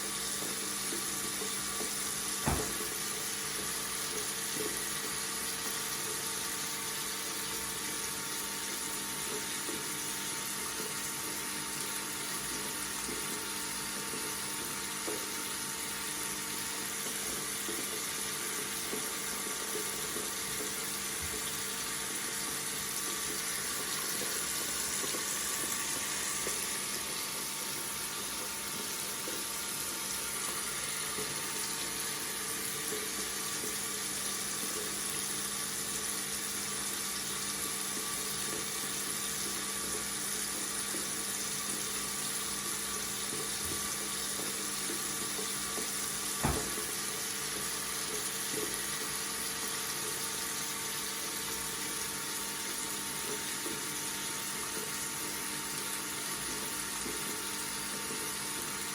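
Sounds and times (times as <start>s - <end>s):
tap water running: 0.0s - 58.9s.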